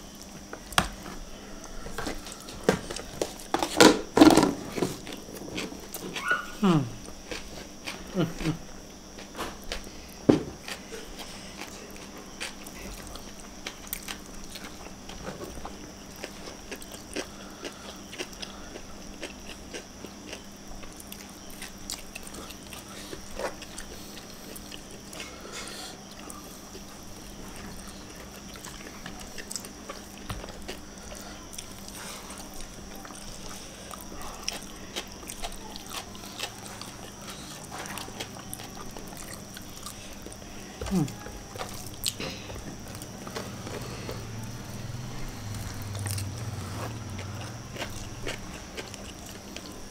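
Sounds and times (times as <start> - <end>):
faint steady hum: 0.0 - 49.9
people chewing and lip smacking: 0.1 - 3.8, 4.9 - 49.9.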